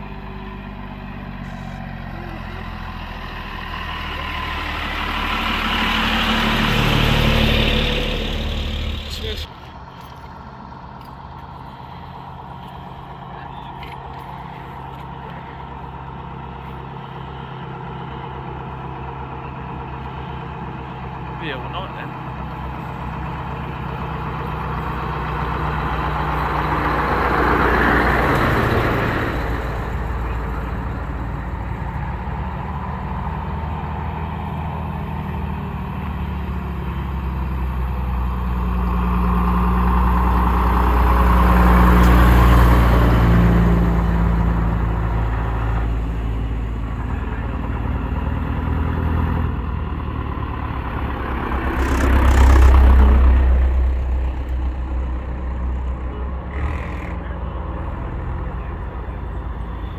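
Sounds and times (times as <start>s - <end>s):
low engine hum: 0.0s - 59.9s
vehicles driving past: 0.0s - 59.9s.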